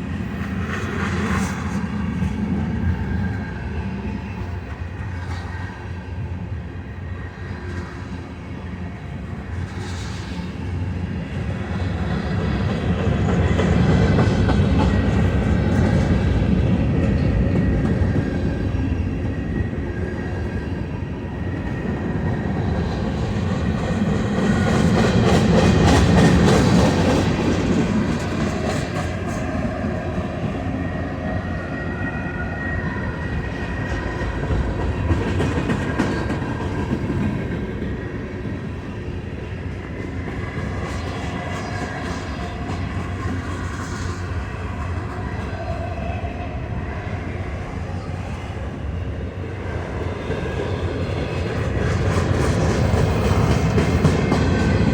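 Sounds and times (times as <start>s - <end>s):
steel wheels rumbling on rails: 0.0s - 54.9s.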